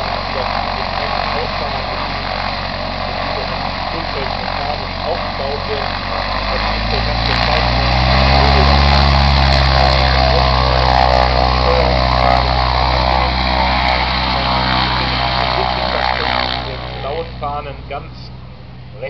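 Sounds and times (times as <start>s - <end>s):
propeller plane engine running: 0.0s - 19.0s.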